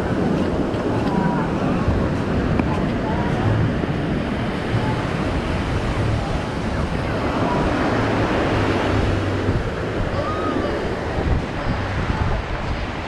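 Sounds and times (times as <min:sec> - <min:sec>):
waves breaking on beach: 0:00.0 - 0:13.0
wind buffeting microphone: 0:00.0 - 0:13.0.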